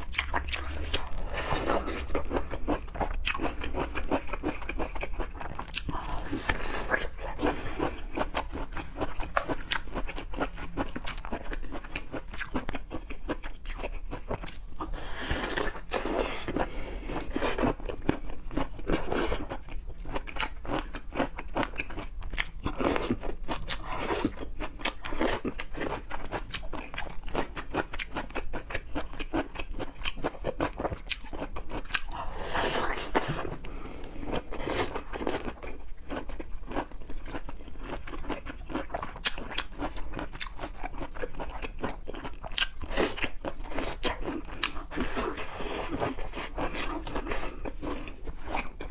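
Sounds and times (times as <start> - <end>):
chewing and crunching seafood: 0.0 - 48.9.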